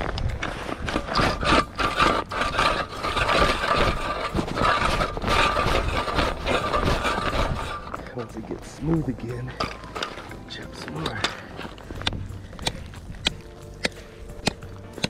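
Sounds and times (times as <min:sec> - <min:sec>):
ice auger grinding ice: 0:00.0 - 0:15.0.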